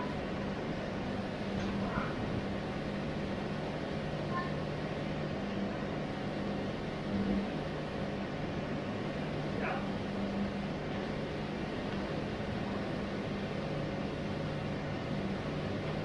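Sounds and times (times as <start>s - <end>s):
mechanical hum with hiss: 0.0s - 16.0s.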